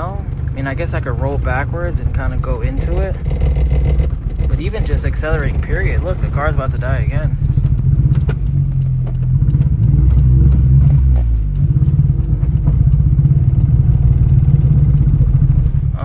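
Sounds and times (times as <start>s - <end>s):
car engine misfiring and sputtering: 0.0s - 16.0s.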